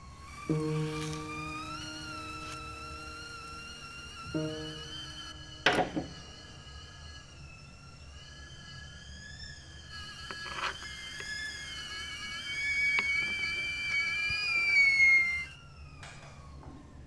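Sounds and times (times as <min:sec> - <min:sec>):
high wavering whistle-like tones: 0:00.0 - 0:17.0.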